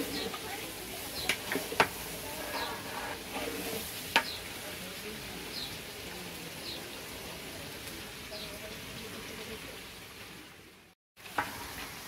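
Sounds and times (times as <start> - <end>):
vegetables sizzling in hot oil: 0.0 - 10.1, 11.2 - 12.0.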